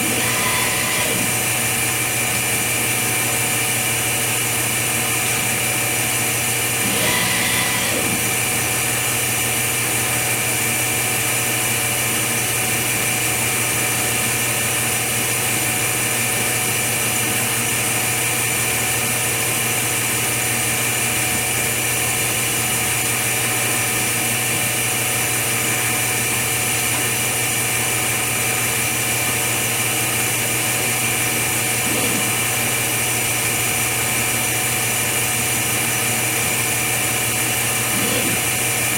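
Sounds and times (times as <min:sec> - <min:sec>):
machine hum and whine: 0:00.0 - 0:14.6, 0:20.2 - 0:38.9.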